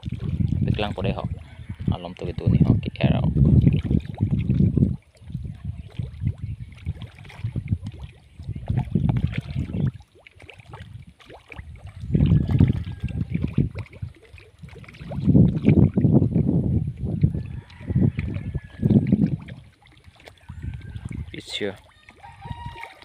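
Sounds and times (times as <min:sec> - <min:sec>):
wind buffeting microphone: 0:00.0 - 0:19.8, 0:20.4 - 0:23.0.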